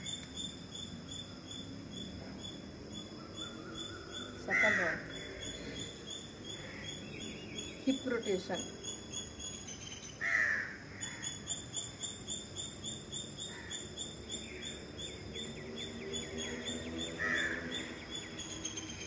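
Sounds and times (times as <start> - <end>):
birds chirping: 0.0 - 19.0
low background noise: 0.0 - 19.0
louder lower bird calls: 3.1 - 19.0.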